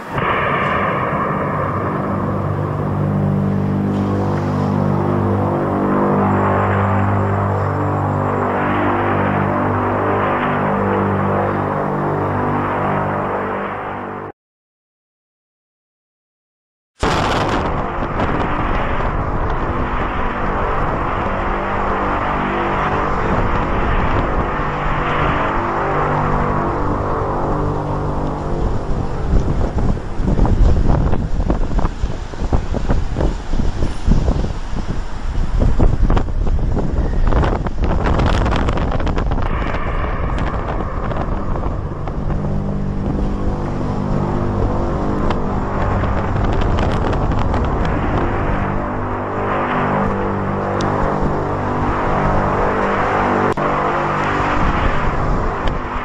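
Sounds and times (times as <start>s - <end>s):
wind buffeting microphone: 0.0s - 12.0s, 17.0s - 56.0s
constant rushing noise: 0.0s - 14.3s, 17.0s - 56.0s
loud low trumpet-like drone: 0.0s - 14.3s, 17.0s - 56.0s.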